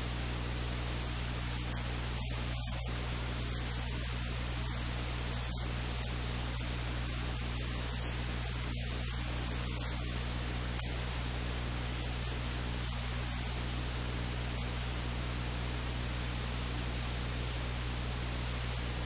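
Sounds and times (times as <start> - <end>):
electrical mains hum: 0.0 - 19.0
steady hiss: 0.0 - 19.0.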